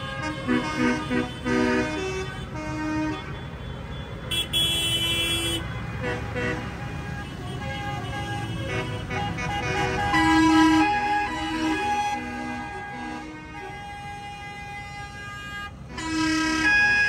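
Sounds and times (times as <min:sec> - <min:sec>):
tractor engines running: 0:00.0 - 0:17.0
tractor horns tooting: 0:00.0 - 0:17.0.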